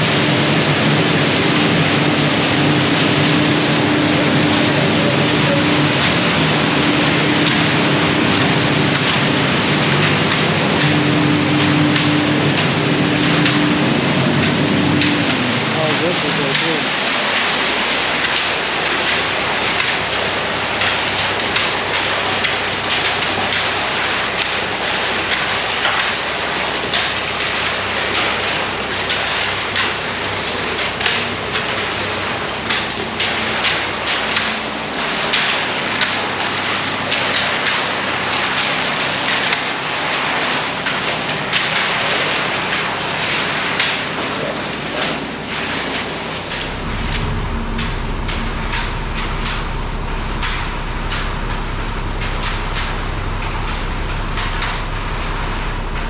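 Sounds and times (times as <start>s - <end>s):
truck engine running low: 0.0s - 39.4s, 44.2s - 56.0s
wet concrete pouring down chute: 0.0s - 56.0s.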